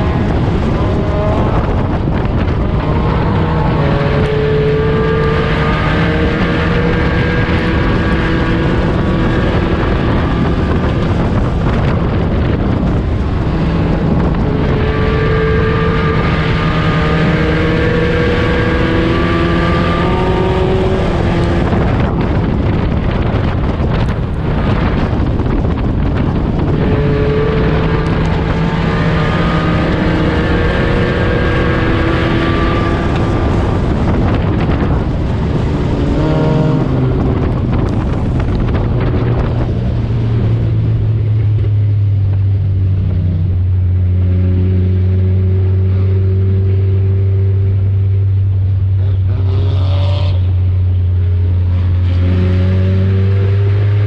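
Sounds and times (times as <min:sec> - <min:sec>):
race car engine: 0:00.0 - 0:54.0
wind noise: 0:00.0 - 0:54.0.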